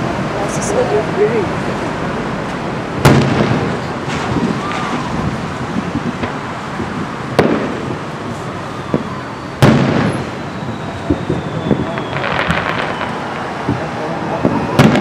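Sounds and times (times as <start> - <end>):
distant fireworks booming and crackling: 2.8 - 15.0
firework booms: 2.9 - 15.0.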